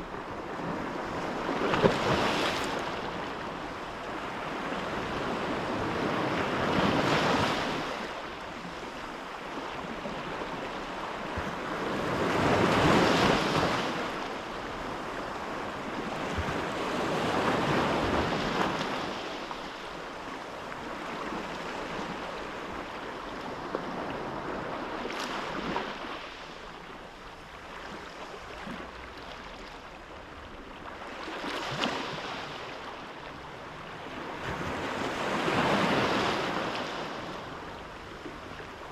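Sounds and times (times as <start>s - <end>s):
sea waves washing in: 0.0s - 26.8s, 27.4s - 38.9s
wind: 0.0s - 38.9s.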